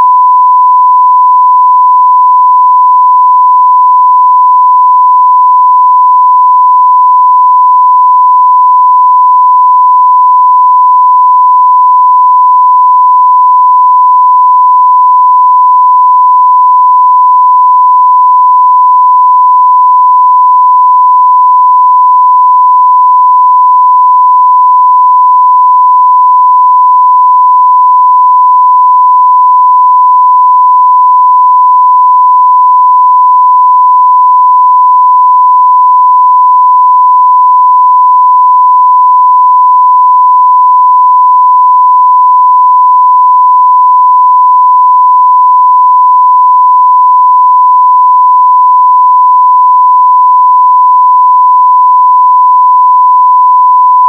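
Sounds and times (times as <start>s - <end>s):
sine-wave test tone: 0.0s - 54.0s.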